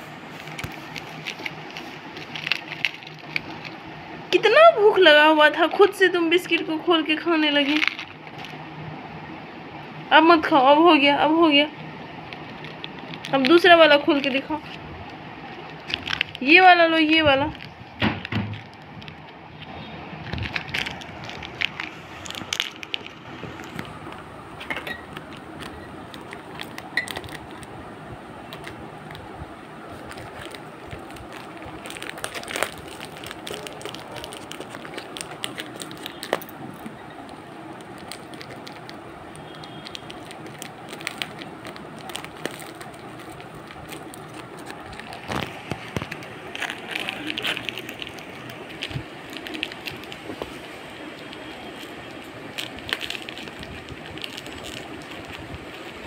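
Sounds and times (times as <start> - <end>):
plastic wrapper crinkling: 0.0 - 8.8, 11.7 - 56.0.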